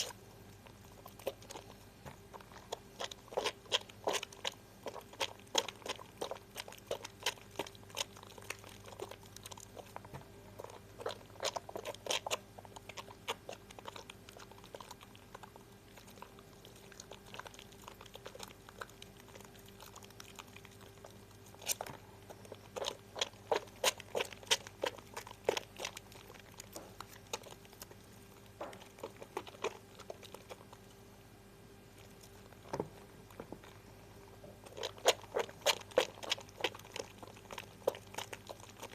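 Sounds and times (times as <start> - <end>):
soap lather squishing: 0.0 - 31.0, 31.8 - 38.9.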